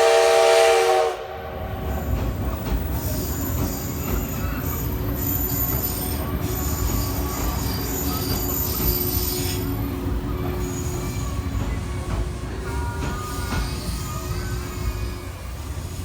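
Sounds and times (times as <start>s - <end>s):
low rumble of moving train: 0.0s - 16.0s
train wheels squealing on rails: 1.6s - 16.0s.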